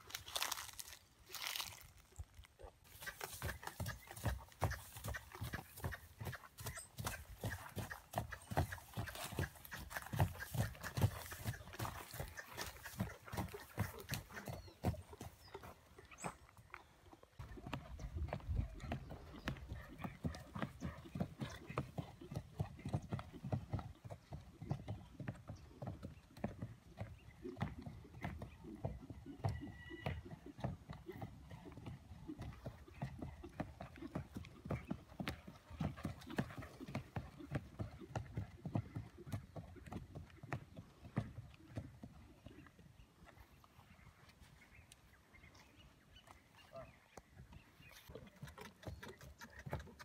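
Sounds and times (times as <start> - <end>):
horse hoofbeats on dirt: 2.8 - 50.0.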